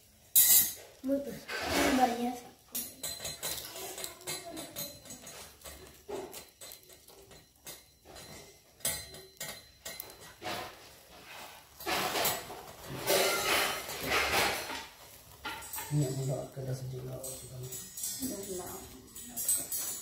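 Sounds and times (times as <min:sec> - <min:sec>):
fire hissing and sizzling: 0:00.0 - 0:20.0
skewers clinking on wire grate: 0:00.1 - 0:20.0.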